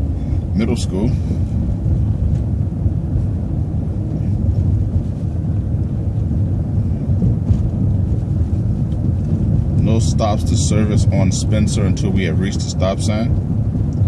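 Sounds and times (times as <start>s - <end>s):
bus engine rumble: 0.0s - 14.0s
road noise: 0.0s - 14.0s.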